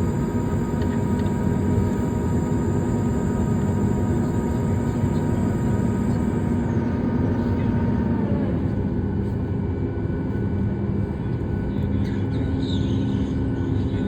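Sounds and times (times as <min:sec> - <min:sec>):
aircraft cabin engine and airflow noise: 0:00.0 - 0:14.0
flap drive whine: 0:00.0 - 0:14.0.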